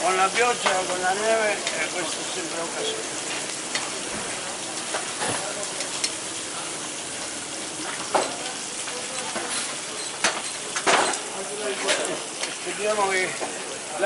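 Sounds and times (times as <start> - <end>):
beef sizzling on griddle: 0.0 - 14.0.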